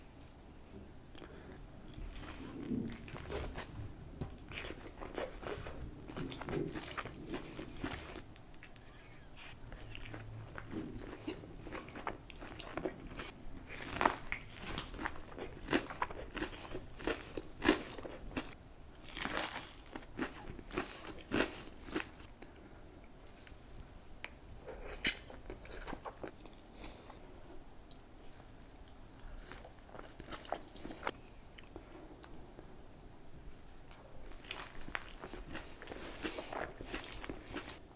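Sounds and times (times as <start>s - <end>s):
chewing: 1.1s - 27.2s, 28.3s - 32.4s, 33.9s - 37.8s.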